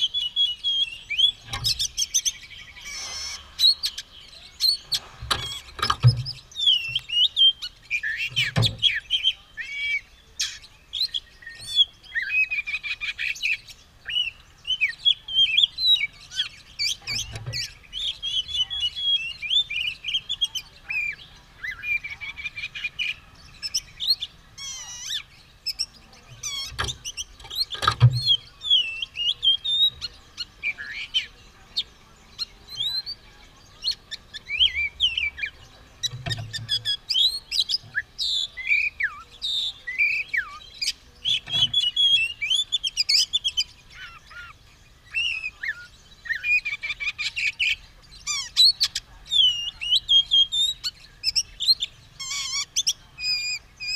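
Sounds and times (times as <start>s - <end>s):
bird singing whistles and chirps: 0.0s - 53.9s.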